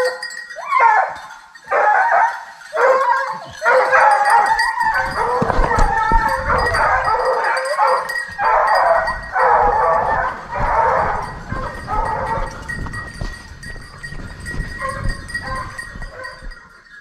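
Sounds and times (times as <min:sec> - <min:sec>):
hunting hounds baying: 0:00.0 - 0:17.0.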